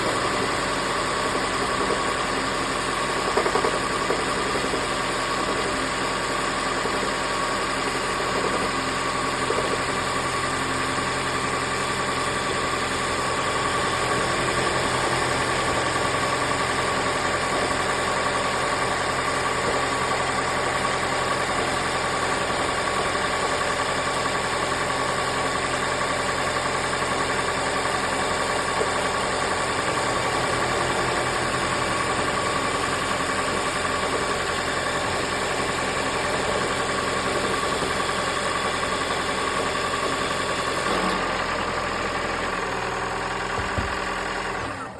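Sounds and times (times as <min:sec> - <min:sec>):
engine idling with fast knocking: 0:00.0 - 0:44.9.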